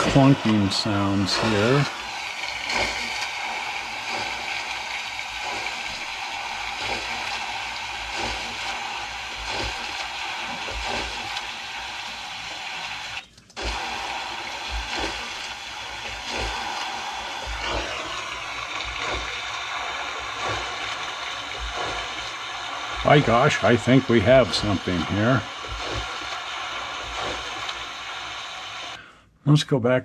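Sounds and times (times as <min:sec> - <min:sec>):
water rushing: 0:00.0 - 0:29.0
water splashes: 0:00.0 - 0:29.0.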